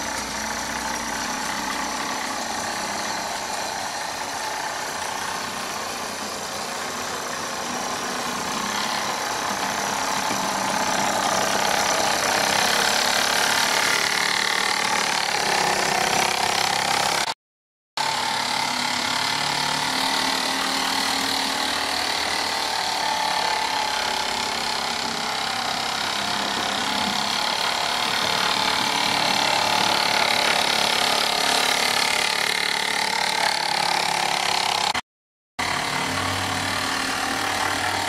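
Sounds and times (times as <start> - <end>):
model train running on track: 0.0 - 17.3, 18.0 - 35.0.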